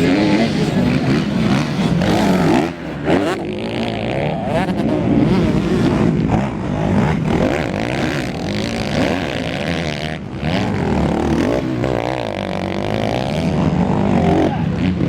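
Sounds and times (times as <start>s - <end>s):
racing motorcycles revving: 0.0s - 15.0s.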